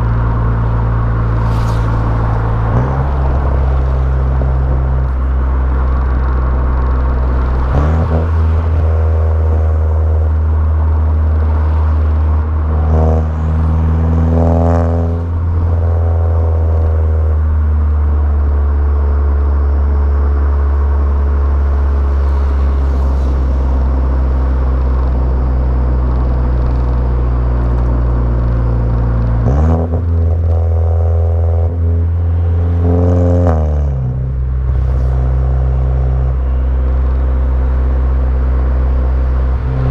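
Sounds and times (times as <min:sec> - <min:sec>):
car engine and exhaust revving: 0:00.0 - 0:39.9.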